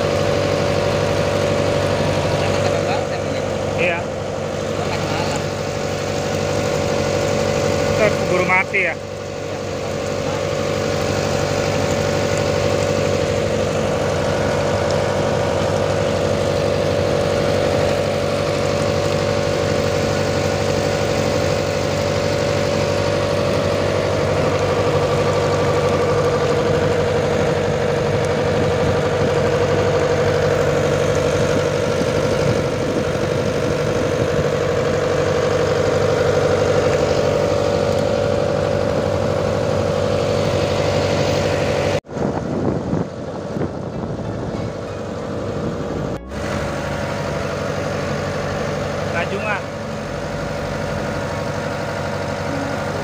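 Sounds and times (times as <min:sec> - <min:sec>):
boat engine humming: 0:00.0 - 0:53.0.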